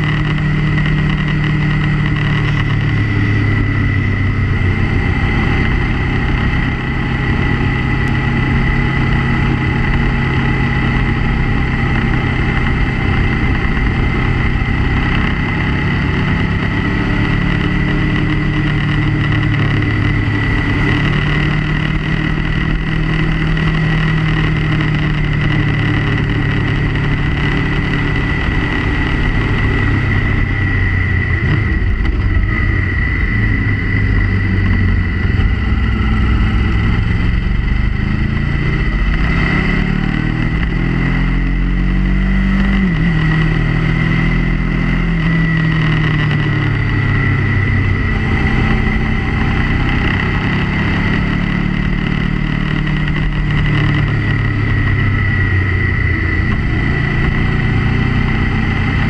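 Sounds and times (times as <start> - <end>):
motorcycle engine running: 0.0 - 59.0
steady high whine: 0.0 - 59.0
wind and road noise: 0.0 - 59.0.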